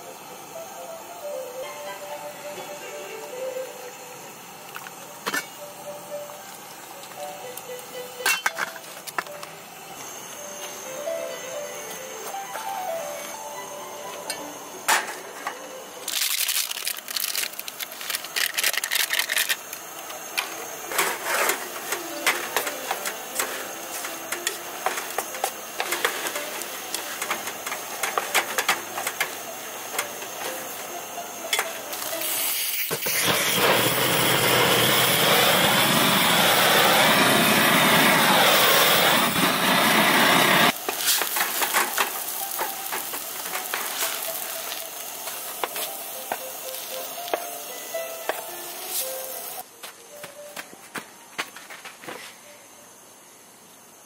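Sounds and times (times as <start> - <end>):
loud steady wavering noise: 0.0 - 40.9, 42.0 - 50.1.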